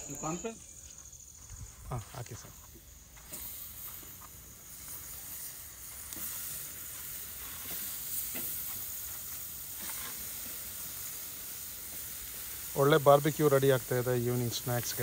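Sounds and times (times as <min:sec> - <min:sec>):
chicken sizzling on grill: 0:02.2 - 0:15.0.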